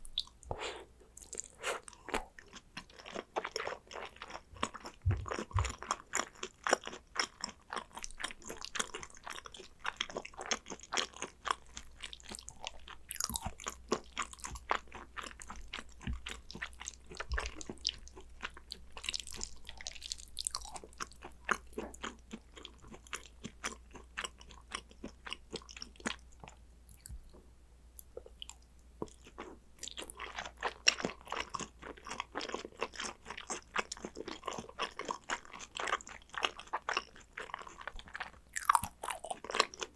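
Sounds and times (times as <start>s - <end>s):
close wet chewing: 0.0s - 27.4s, 28.0s - 39.9s.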